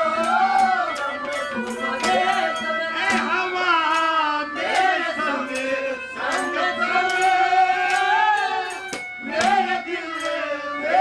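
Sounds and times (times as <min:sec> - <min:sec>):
steady instrumental drone: 0:00.0 - 0:11.0
man singing with wavering notes: 0:01.5 - 0:11.0.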